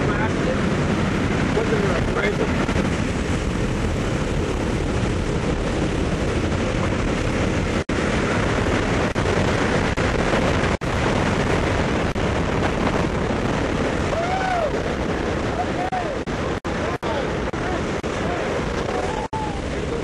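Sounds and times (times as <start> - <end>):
aircraft engine noise: 0.0 - 20.0
slipstream wind rushing: 0.0 - 20.0.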